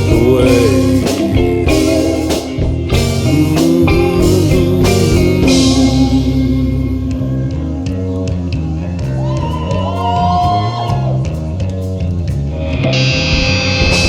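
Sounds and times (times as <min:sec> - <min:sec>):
electric guitar lead: 0:00.0 - 0:14.0
rock band playing: 0:00.0 - 0:14.0.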